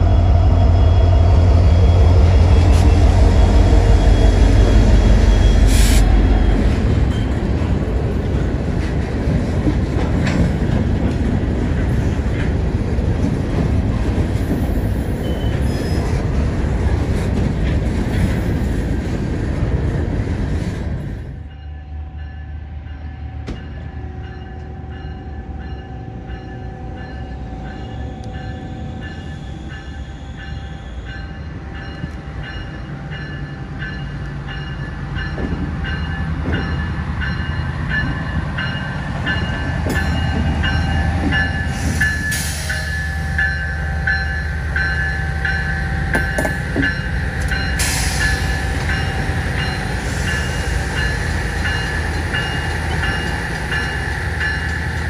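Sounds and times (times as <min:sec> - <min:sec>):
low train rumble: 0:00.0 - 0:55.0
train running close by: 0:00.0 - 0:55.0.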